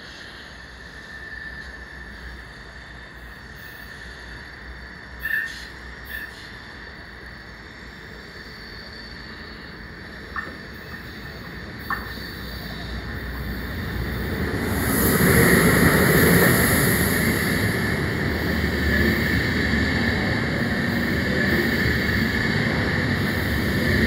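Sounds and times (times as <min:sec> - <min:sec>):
train rumble and hiss: 0:00.0 - 0:24.0.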